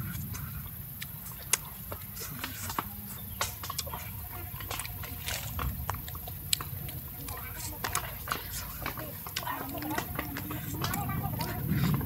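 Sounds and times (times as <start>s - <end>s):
person chewing close to microphone: 0.1s - 12.0s.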